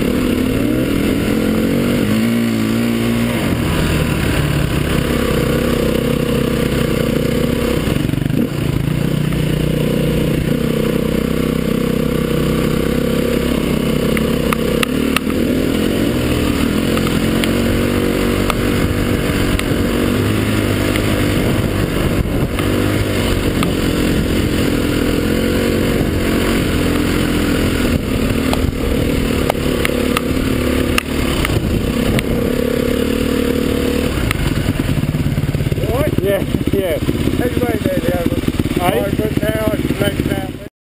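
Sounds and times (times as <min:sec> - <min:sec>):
dirt bike engine: 0:00.0 - 0:40.7.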